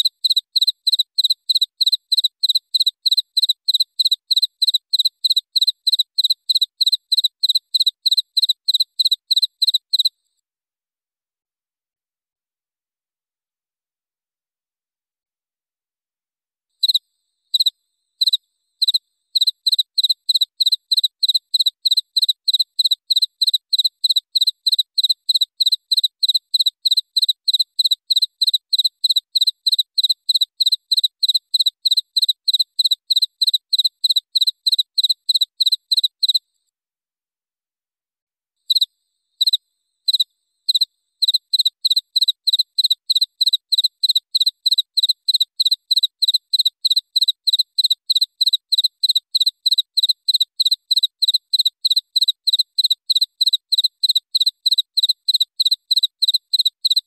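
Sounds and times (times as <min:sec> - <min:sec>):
cricket chirping: 0:00.0 - 0:10.2, 0:16.8 - 0:36.4, 0:38.7 - 0:57.0.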